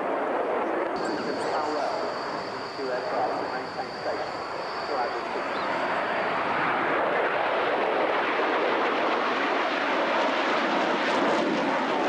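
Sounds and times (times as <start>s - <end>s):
jet engines rushing overhead: 0.0s - 12.0s.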